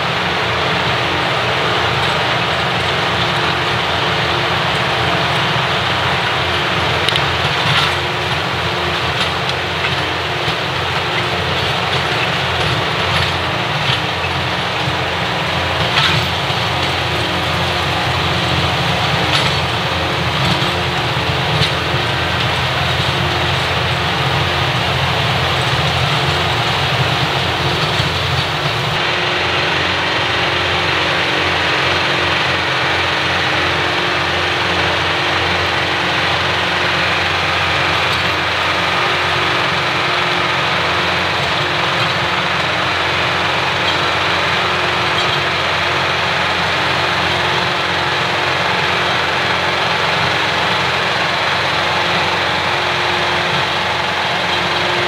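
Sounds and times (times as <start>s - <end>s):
rotary tiller through soil: 0.0s - 55.0s
tractor diesel engine under load: 0.0s - 55.0s.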